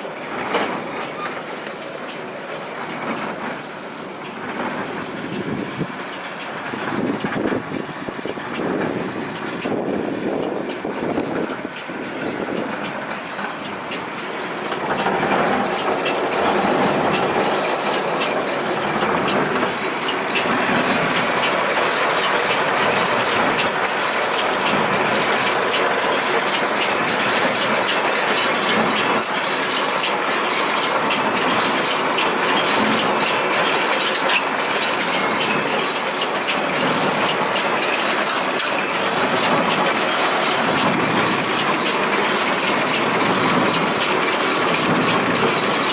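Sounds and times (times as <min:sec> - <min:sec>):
baler mechanical clatter: 0:00.0 - 0:45.9.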